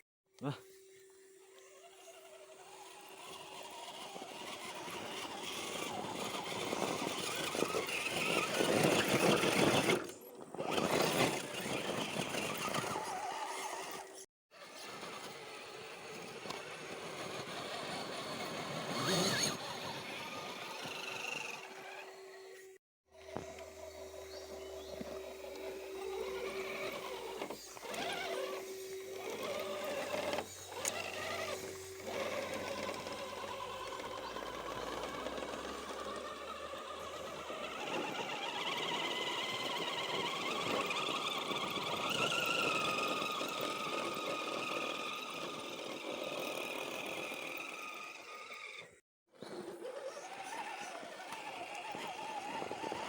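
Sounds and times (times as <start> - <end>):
electric motor and gears whirring: 0.3 - 53.0.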